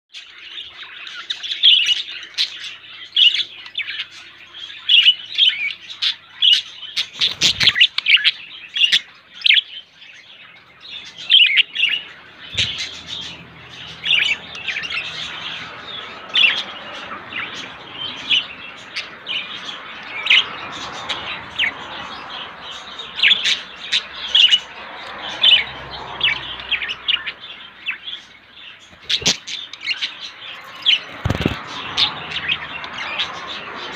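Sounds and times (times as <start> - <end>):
budgerigars chirping and chattering: 0.2 - 33.9.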